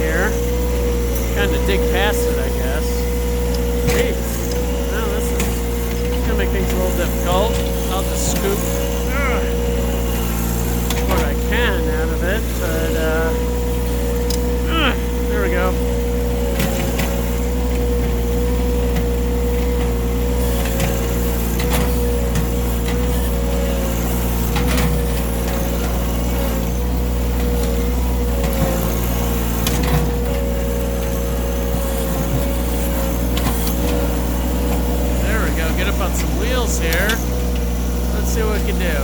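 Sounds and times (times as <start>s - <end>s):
steady whine: 0.0s - 39.0s
tractor diesel engine running: 0.0s - 39.0s.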